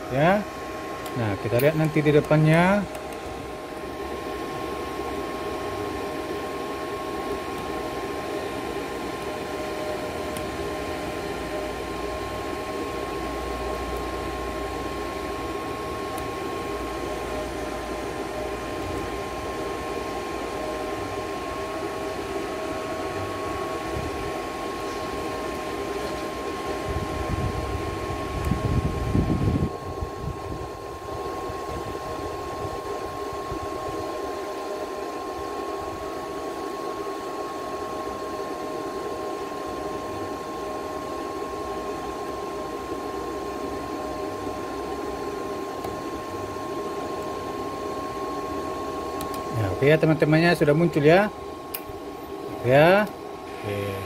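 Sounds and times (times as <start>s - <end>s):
welder humming and whining: 0.0s - 54.0s.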